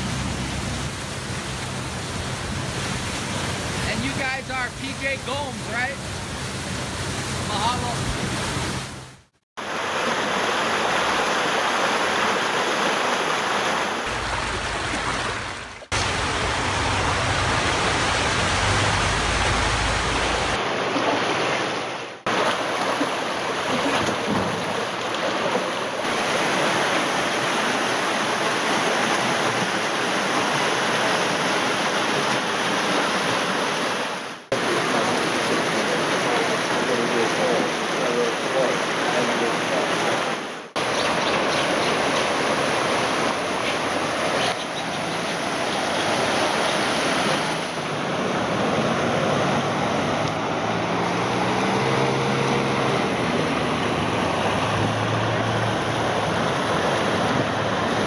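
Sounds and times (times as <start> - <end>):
floodwater rushing and churning: 0.0 - 58.0.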